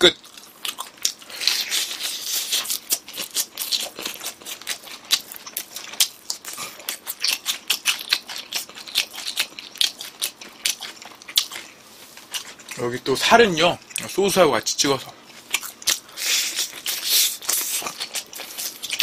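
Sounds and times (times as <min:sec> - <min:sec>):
crunchy chicken being chewed: 0:00.1 - 0:13.0, 0:15.2 - 0:19.0.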